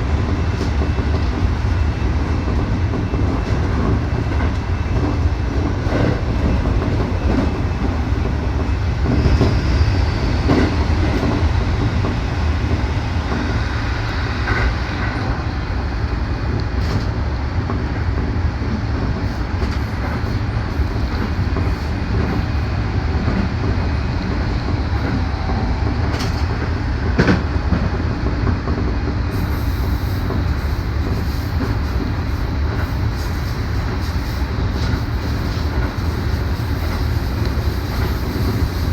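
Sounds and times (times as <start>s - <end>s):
rail joint clicks: 0.0s - 38.9s
train wheels rumbling on track: 0.0s - 38.9s.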